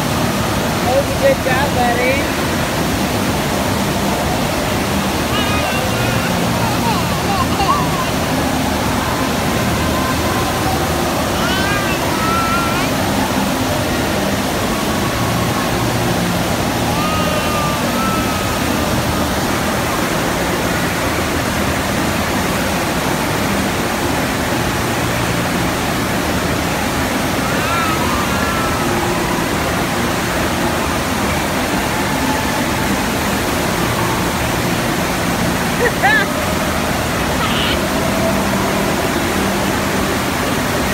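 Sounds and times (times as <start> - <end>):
loud rush of water: 0.0 - 40.9.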